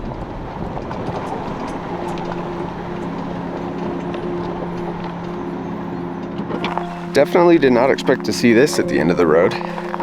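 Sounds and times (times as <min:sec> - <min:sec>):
off-road vehicle engine drone: 0:00.0 - 0:10.0
tyre and road noise: 0:00.0 - 0:10.0.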